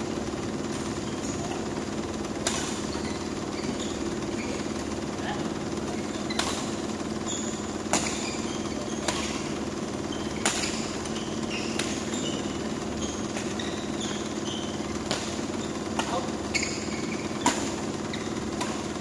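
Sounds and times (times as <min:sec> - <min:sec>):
low hall hum: 0:00.0 - 0:19.0
shoes squeaking on court: 0:00.0 - 0:19.0
rackets striking shuttlecock: 0:02.2 - 0:04.9, 0:05.7 - 0:19.0.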